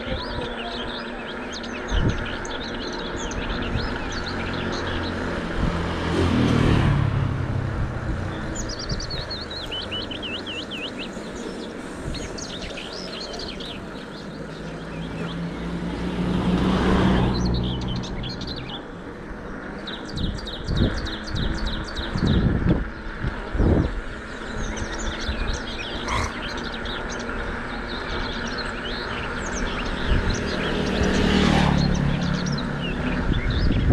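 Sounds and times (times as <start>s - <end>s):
birds chirping: 0.0s - 33.9s
vehicles passing by: 0.0s - 33.9s.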